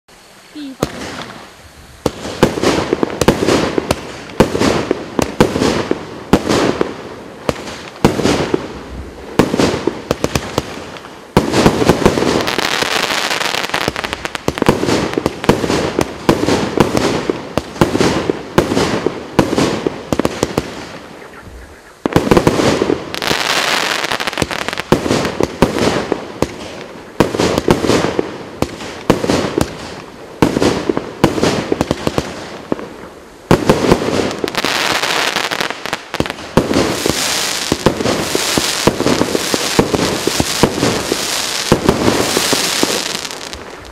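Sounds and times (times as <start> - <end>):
fireworks sharp bangs: 0.6 - 43.9.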